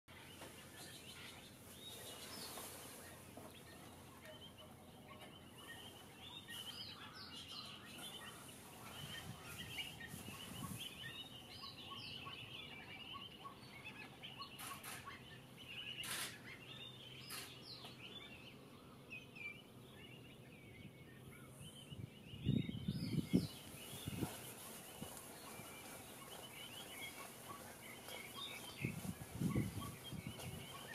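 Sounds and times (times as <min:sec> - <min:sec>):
flock of birds calling: 0:00.1 - 0:30.9.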